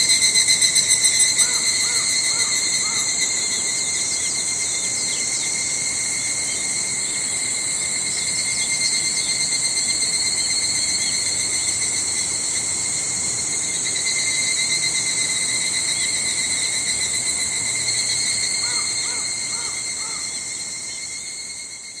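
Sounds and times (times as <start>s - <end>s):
cicadas chorus: 0.0s - 22.0s.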